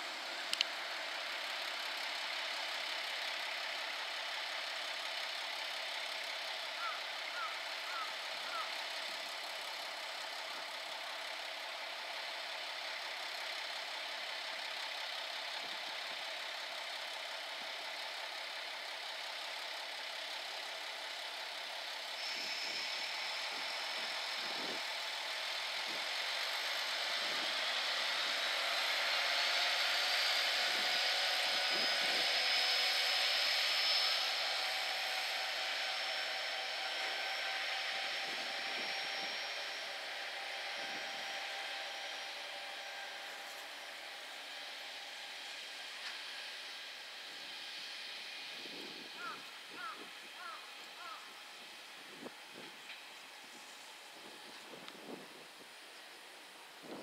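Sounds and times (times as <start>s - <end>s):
diesel train engines accelerating: 0.0s - 57.0s
rising whine: 0.0s - 57.0s.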